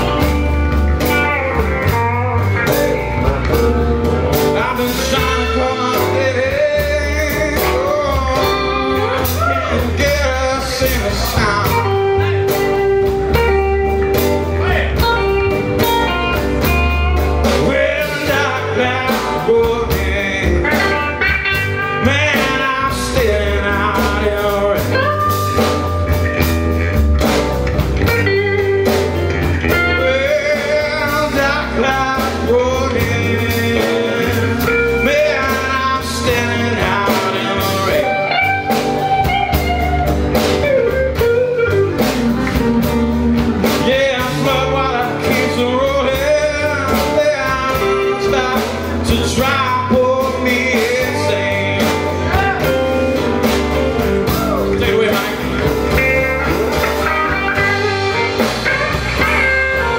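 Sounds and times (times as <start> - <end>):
acoustic guitar: 0.0 - 59.9
bass guitar: 0.0 - 59.9
drums: 0.0 - 59.9
electric guitar: 0.0 - 59.9.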